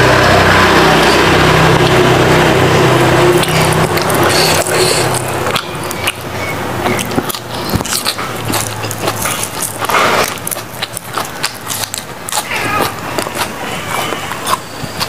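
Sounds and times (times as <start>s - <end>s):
chewing raw leafy greens: 1.7s - 15.0s.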